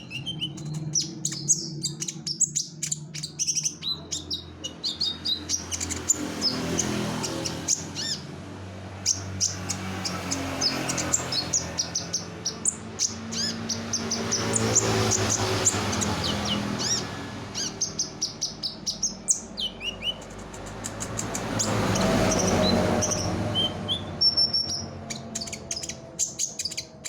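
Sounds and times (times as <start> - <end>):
sunbird singing: 0.0 - 8.3, 9.0 - 27.0.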